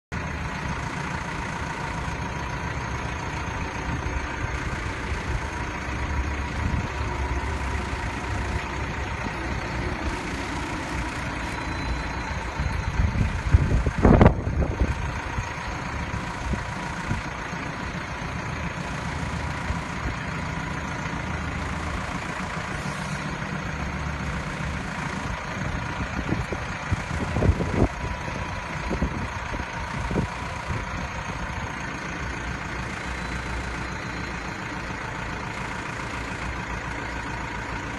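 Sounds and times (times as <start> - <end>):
diesel engine idling: 0.1 - 37.9.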